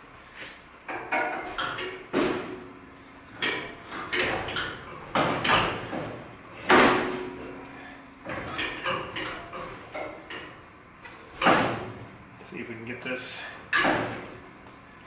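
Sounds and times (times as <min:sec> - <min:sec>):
metal clanks and knocks: 0:00.9 - 0:12.1, 0:13.6 - 0:14.5.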